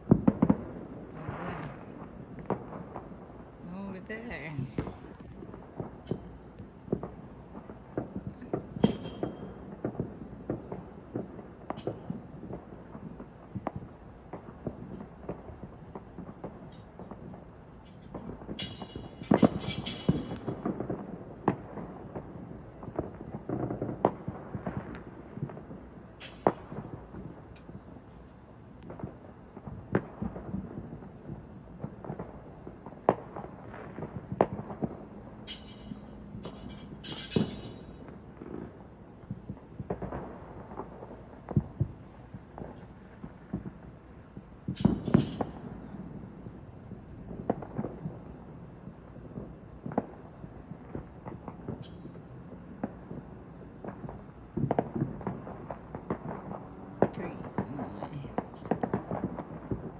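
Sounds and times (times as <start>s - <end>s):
fireworks bangs and pops: 0.0s - 59.9s
fireworks crackling: 0.0s - 59.9s.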